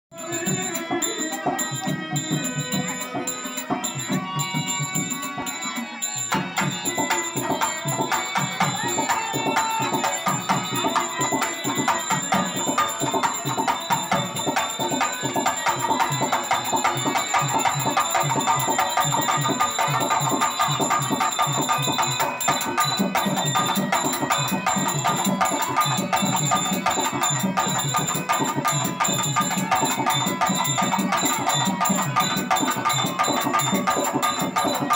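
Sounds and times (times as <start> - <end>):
hand drum percussion: 0.1 - 34.9
harmonium melody: 0.1 - 34.9.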